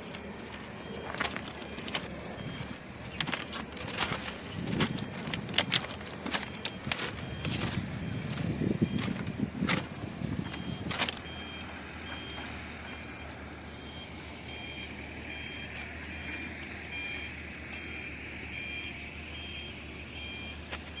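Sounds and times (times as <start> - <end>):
alternating warning beeps: 0.0 - 21.0
low engine hum: 0.0 - 21.0.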